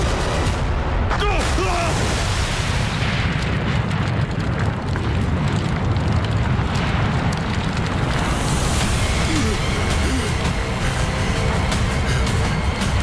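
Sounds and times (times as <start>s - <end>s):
faint crackles: 1.9s - 12.5s
low rumble: 2.0s - 13.0s.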